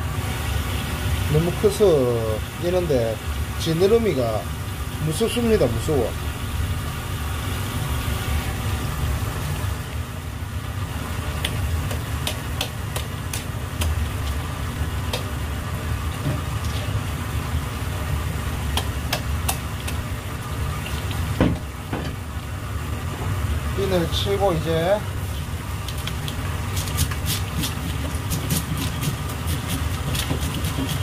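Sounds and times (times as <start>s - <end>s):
low engine-like hum: 0.0s - 31.0s.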